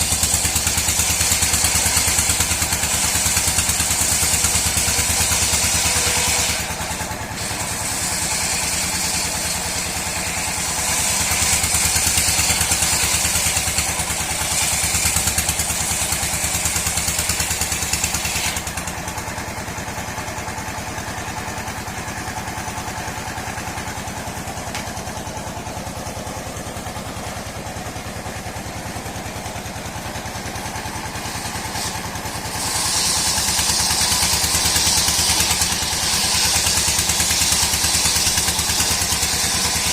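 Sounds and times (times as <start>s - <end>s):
saw blade whining through wood: 0.0s - 39.9s
sawmill engine running: 0.0s - 39.9s.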